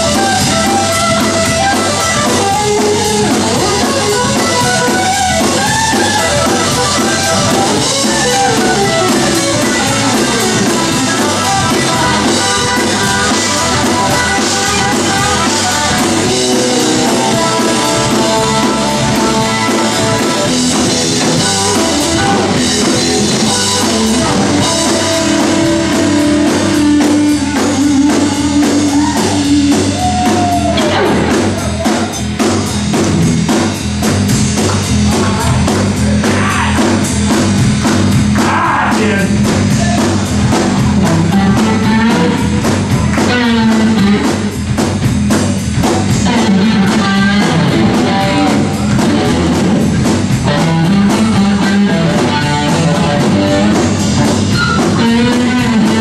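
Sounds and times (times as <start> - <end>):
bass guitar: 0.0 - 56.0
drum kit: 0.0 - 56.0
electric guitar: 0.0 - 56.0
rock band playing: 0.0 - 56.0.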